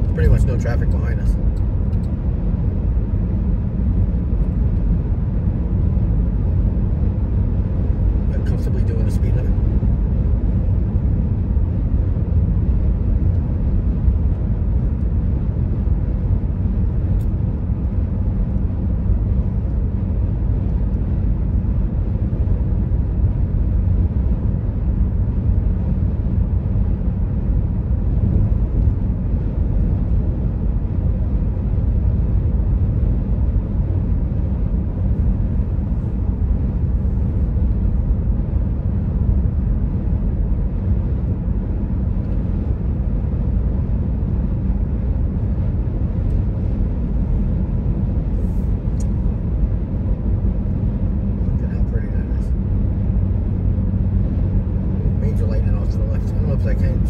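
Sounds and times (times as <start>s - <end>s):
car road and engine drone: 0.0s - 57.0s.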